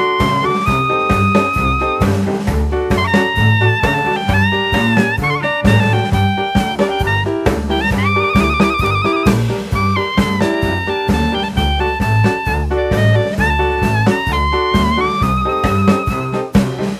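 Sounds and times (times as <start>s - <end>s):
brass lead with vibrato: 0.0s - 16.9s
drums: 0.0s - 16.9s
upbeat jazz tune: 0.0s - 16.9s
walking bass: 0.0s - 16.9s.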